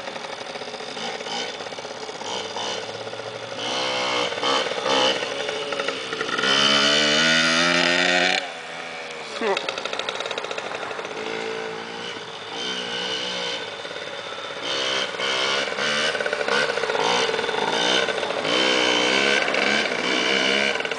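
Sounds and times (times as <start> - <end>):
small engine revving: 0.0 - 20.9.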